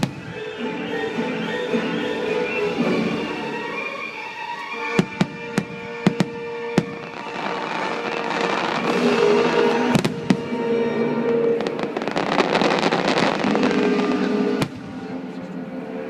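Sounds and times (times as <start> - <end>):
fireworks bursting: 0.0 - 3.3, 4.8 - 15.2
orchestral music: 0.0 - 16.0.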